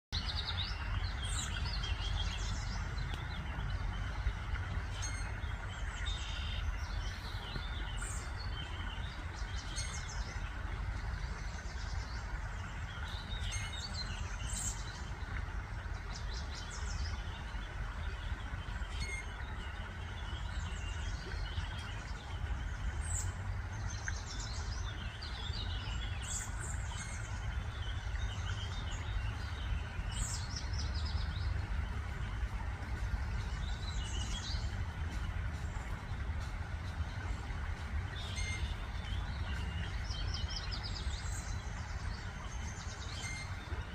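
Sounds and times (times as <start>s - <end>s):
steady low rumble: 0.2s - 43.9s.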